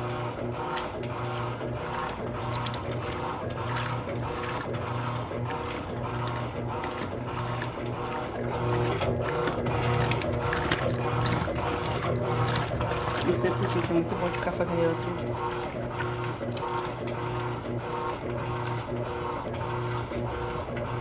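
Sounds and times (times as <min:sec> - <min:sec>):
washing machine motor hum: 0:00.0 - 0:21.0
washing machine rattle: 0:00.0 - 0:21.0.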